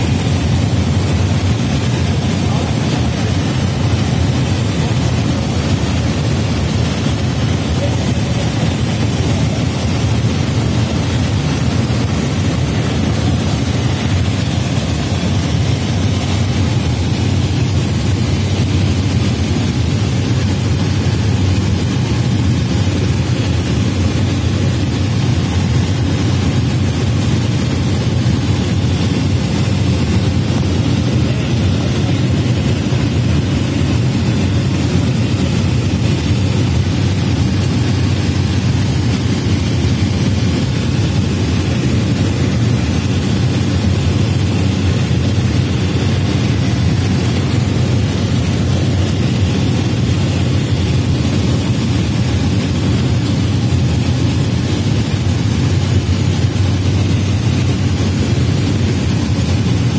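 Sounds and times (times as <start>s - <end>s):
propeller aircraft engine drone: 0.0s - 59.9s.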